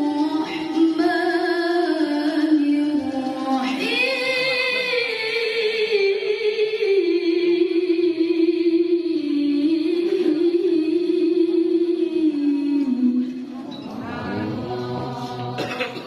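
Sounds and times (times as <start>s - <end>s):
woman reciting melodically: 0.0s - 16.0s.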